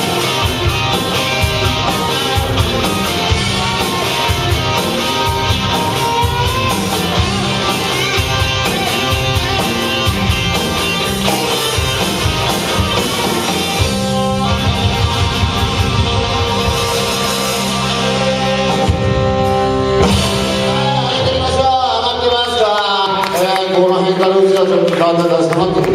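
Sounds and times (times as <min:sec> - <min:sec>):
drums in a steady beat: 0:00.0 - 0:21.7
bass guitar: 0:00.0 - 0:23.4
distorted electric guitar: 0:00.0 - 0:23.4.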